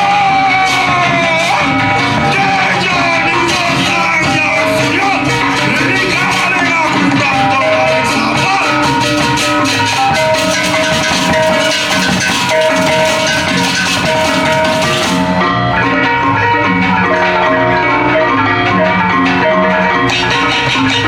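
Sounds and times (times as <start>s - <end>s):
cymbals clashing: 0.0s - 21.0s
drums: 0.0s - 21.0s
gongs ringing: 0.0s - 21.0s.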